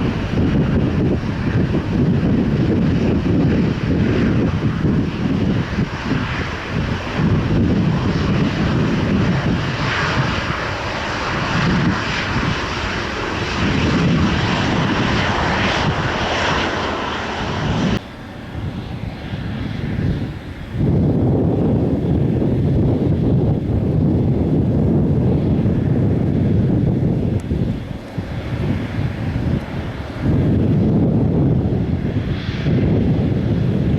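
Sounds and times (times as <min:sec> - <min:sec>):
jet engines rumbling: 0:00.0 - 0:33.9
wind buffeting microphone: 0:00.0 - 0:33.9.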